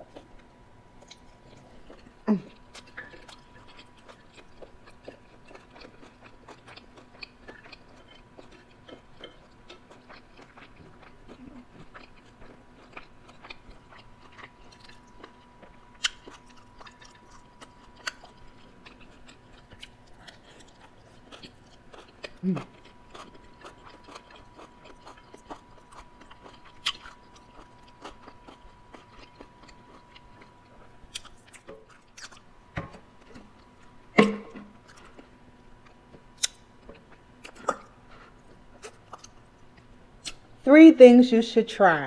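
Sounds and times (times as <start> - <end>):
person chewing crunchy slaw: 0.0 - 32.5, 34.8 - 40.4.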